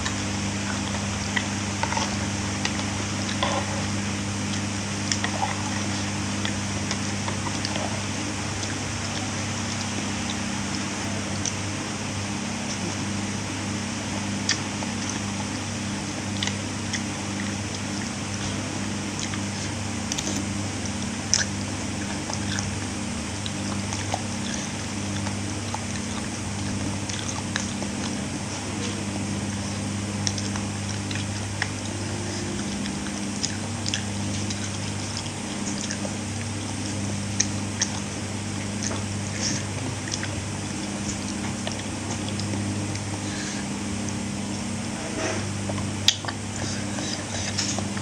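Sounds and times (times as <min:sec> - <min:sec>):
person chewing food: 0:00.0 - 0:48.0
steady low hum: 0:00.0 - 0:48.0.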